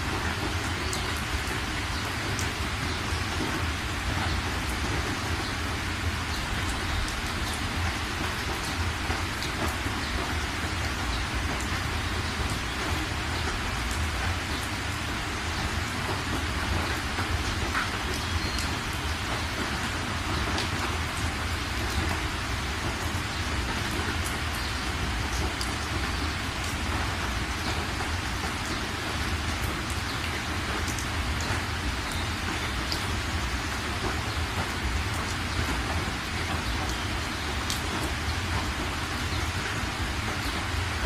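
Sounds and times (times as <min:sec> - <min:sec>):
heavy rain on car roof: 0:00.0 - 0:41.0.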